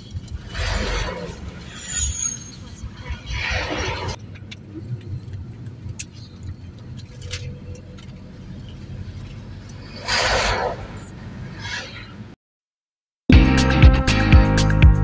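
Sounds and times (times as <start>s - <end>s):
vehicle rumble from inside cabin: 0.0s - 12.4s.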